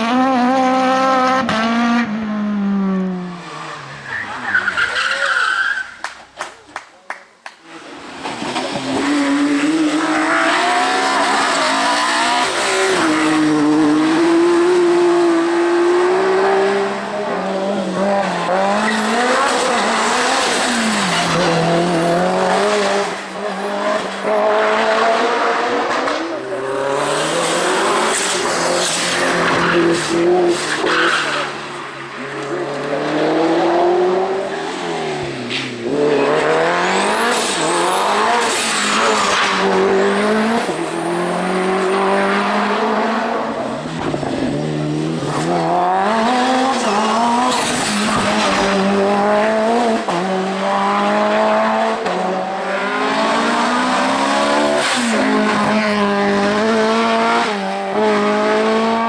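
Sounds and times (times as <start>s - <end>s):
racing car engines revving: 0.0s - 6.4s, 7.6s - 59.0s.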